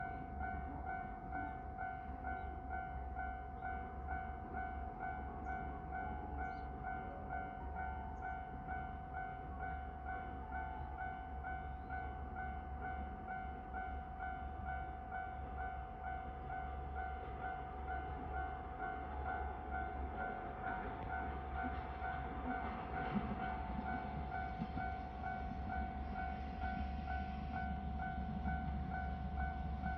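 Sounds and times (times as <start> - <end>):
level crossing warning bell: 0.0 - 29.9.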